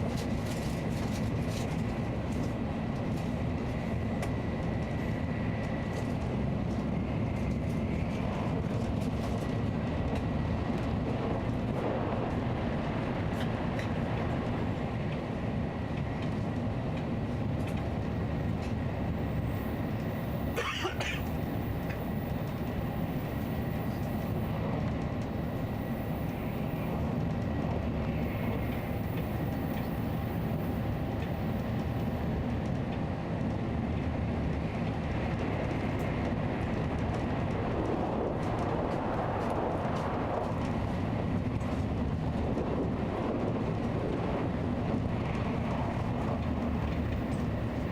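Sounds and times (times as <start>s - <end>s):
train rumbling at speed: 0.0s - 47.9s.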